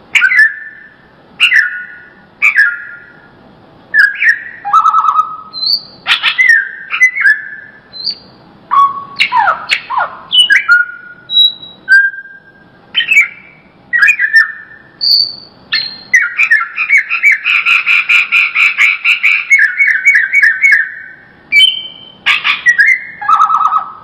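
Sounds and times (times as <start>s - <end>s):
bird whistling song: 0.1s - 3.3s, 3.9s - 24.0s.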